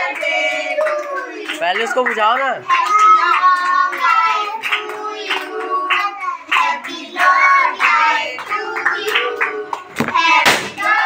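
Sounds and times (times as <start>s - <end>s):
group singing birthday song: 0.0s - 11.0s
rhythmic hand clapping: 0.0s - 11.0s.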